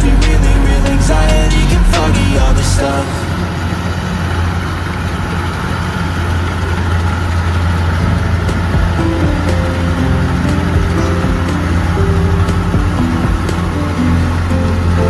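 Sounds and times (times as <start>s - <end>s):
harvester engine humming: 0.0s - 15.0s.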